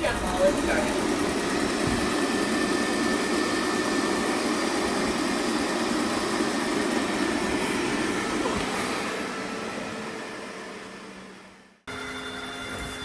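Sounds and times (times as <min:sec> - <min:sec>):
robot vacuum whirring: 0:00.0 - 0:11.7.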